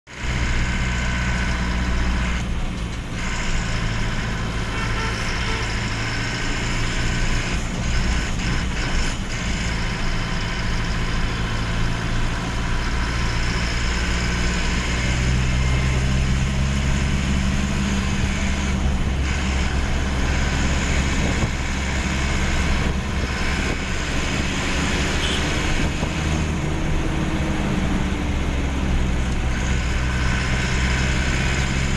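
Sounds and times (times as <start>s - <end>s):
vehicle engine running: 0.1s - 31.9s.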